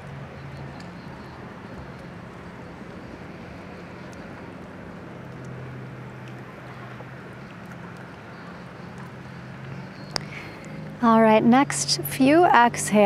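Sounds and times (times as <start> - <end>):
low drone: 0.0 - 13.0.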